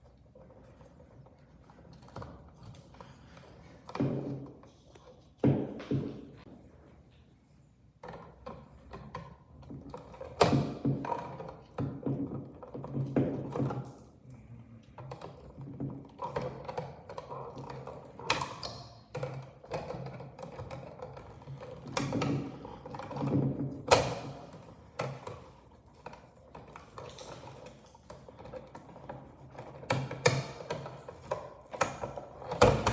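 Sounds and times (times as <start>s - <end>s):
tools tapping and knocking: 1.7s - 6.4s, 8.0s - 14.1s, 15.0s - 32.9s.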